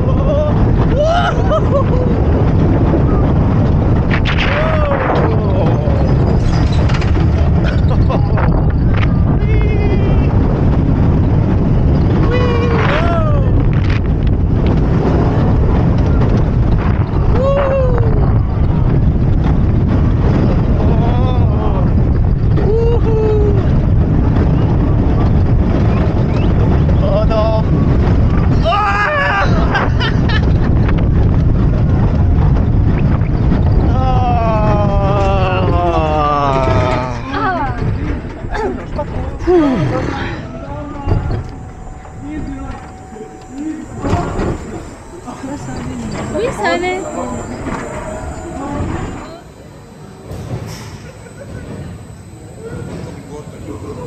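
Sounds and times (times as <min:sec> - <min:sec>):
wind rushing over microphone: 0:00.0 - 0:50.7
roller coaster wheels rumbling: 0:00.0 - 0:54.0
falling whine of brakes: 0:01.9 - 0:54.0.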